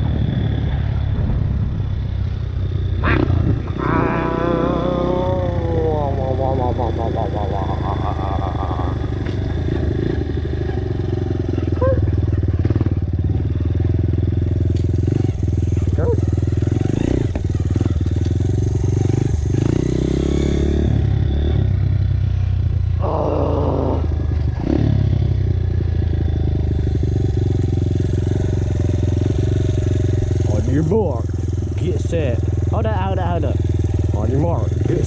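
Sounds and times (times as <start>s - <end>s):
dirt bike engine running: 0.0s - 35.0s.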